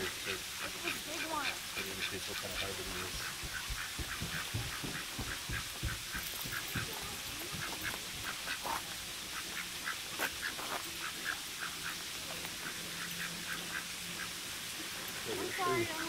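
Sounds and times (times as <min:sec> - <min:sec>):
waterfowl soft calls: 0:00.0 - 0:14.5, 0:15.3 - 0:16.0.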